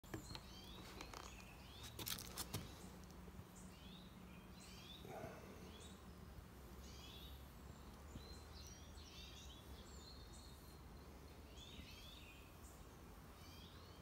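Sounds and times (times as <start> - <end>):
bird chirping: 0.0 - 14.0
steady low hum: 2.6 - 14.0.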